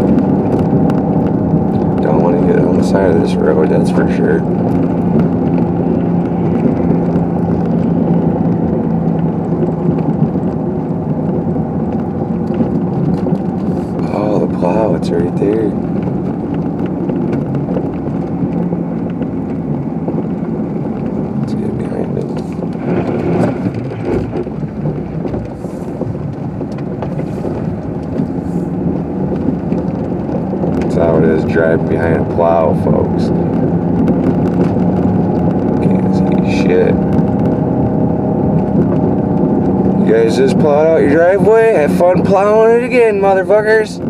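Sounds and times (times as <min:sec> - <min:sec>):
car engine and tyre noise: 0:00.0 - 0:44.0.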